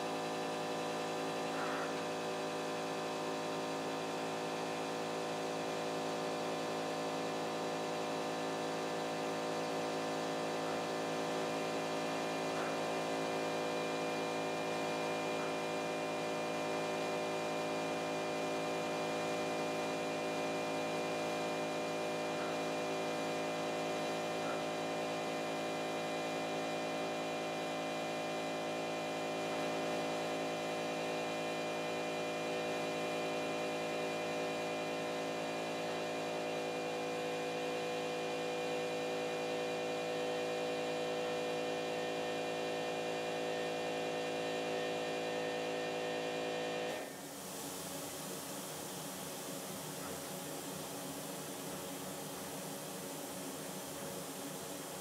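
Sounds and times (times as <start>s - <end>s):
electrical hum of drawing machine: 0.0s - 55.0s.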